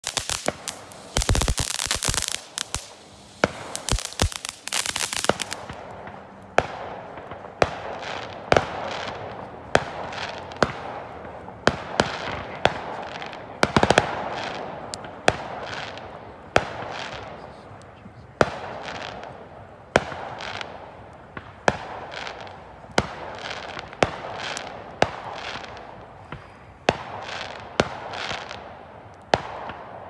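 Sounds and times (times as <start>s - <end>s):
fireworks bangs: 0.0s - 30.0s
fireworks crackling and popping: 0.0s - 30.0s.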